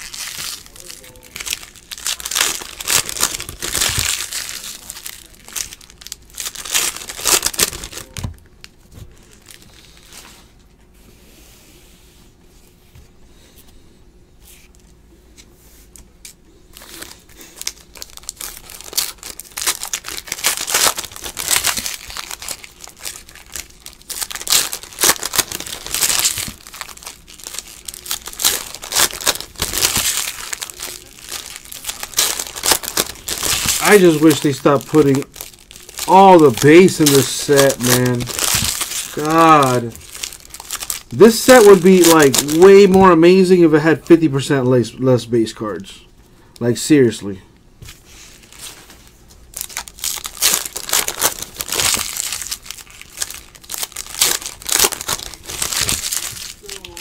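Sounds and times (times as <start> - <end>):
foil wrappers crinkling and tearing: 0.0 - 10.4, 16.2 - 43.6, 48.3 - 57.0.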